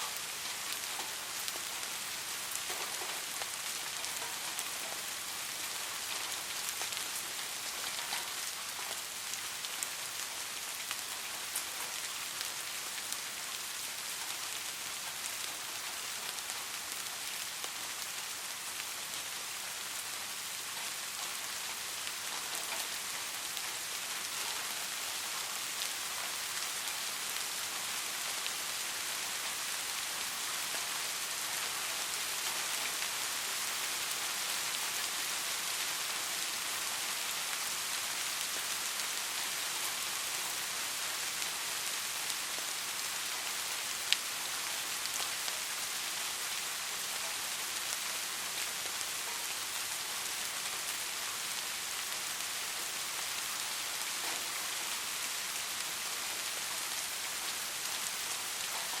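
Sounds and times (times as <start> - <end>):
soft rain falling: 0.0 - 59.0.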